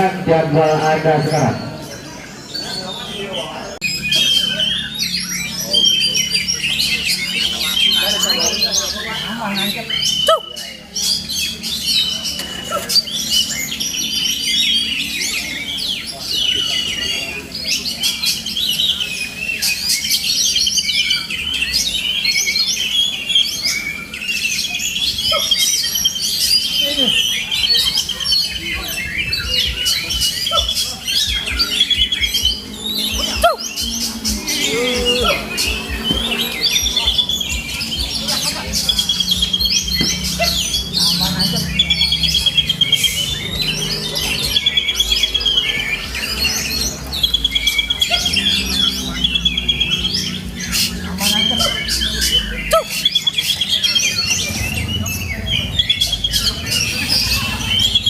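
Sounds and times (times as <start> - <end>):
bird singing chirps and trills: 0.0 - 58.0.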